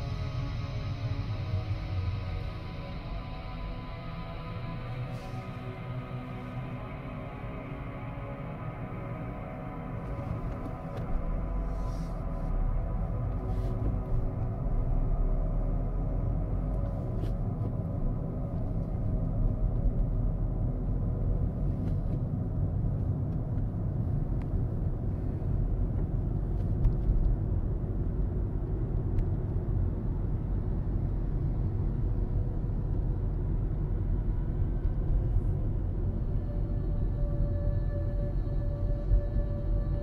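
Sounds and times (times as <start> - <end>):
car engine and tyre rumble: 0.0 - 40.0.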